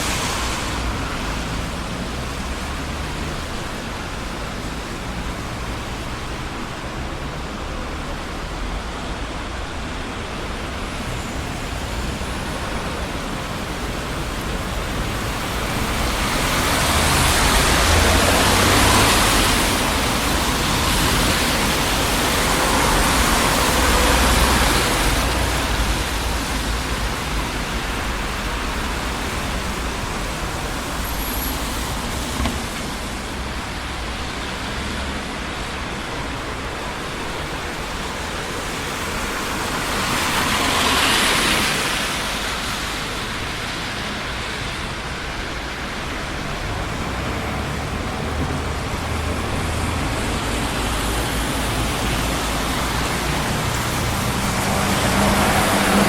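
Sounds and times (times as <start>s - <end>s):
city street traffic: 0.0s - 56.0s
vehicles passing close by: 0.0s - 56.0s.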